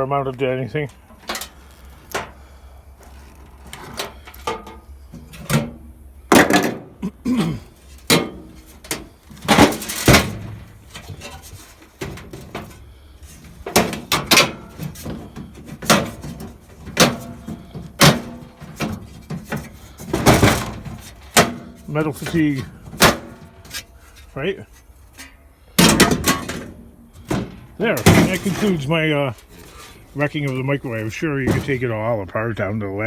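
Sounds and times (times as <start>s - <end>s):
sheet metal clanking and rattling: 3.7s - 7.0s, 7.8s - 32.1s.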